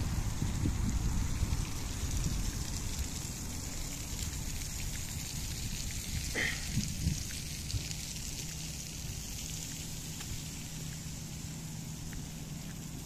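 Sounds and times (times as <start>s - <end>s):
steady rain-like hiss: 0.0s - 13.0s.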